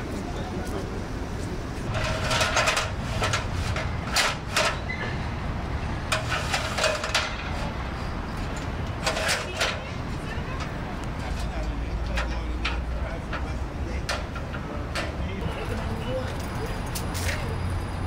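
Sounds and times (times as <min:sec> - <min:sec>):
low street rumble: 0:00.0 - 0:18.0.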